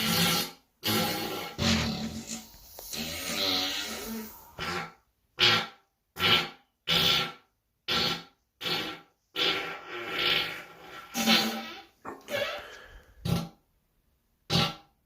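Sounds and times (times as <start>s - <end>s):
farts: 0.0s - 13.6s, 14.5s - 15.0s.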